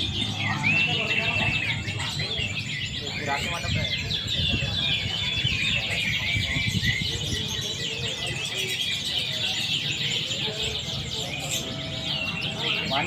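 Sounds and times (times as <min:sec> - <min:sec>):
canaries singing: 0:00.0 - 0:13.0.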